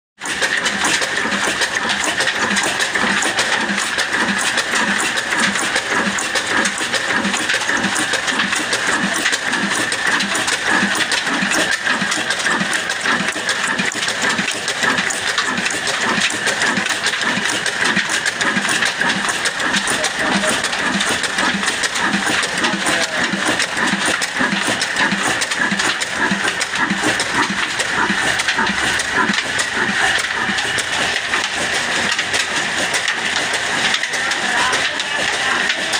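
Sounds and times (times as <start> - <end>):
oil engine running: 0.2 - 35.9.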